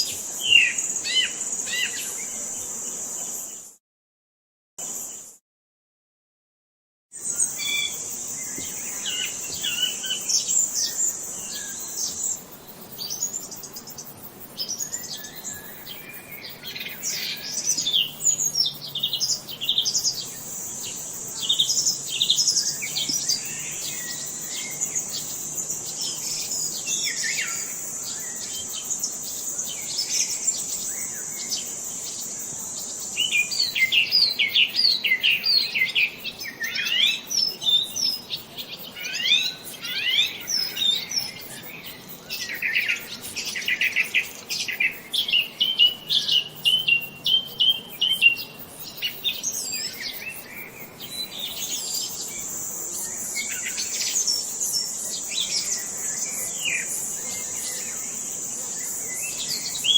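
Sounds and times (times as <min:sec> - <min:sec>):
songbirds chirping and singing: 0:07.2 - 0:59.9.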